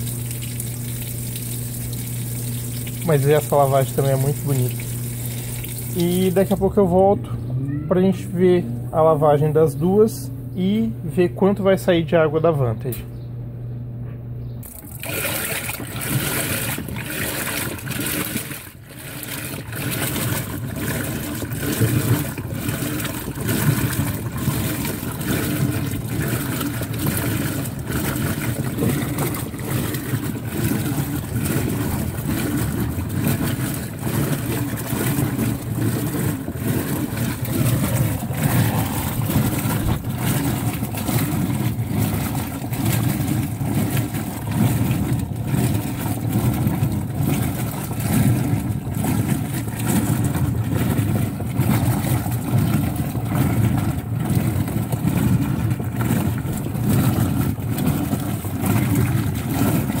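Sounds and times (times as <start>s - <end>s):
washing machine churning water: 0.0s - 12.9s, 14.6s - 60.0s.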